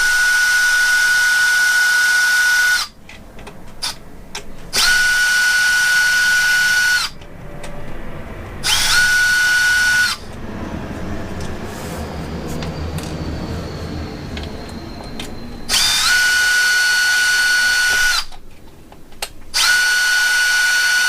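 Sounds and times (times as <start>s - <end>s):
electric driver high whine: 0.0s - 18.4s, 19.5s - 21.0s.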